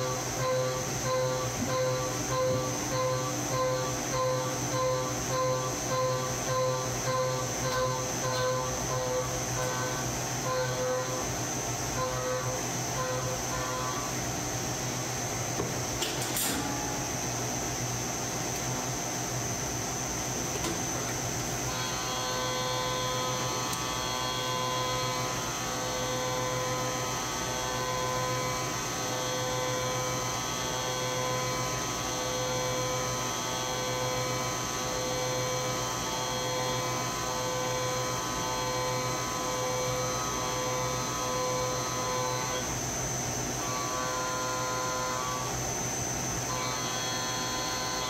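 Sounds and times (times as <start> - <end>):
mains hum: 0.0 - 48.0
milling machine whine: 0.0 - 48.0.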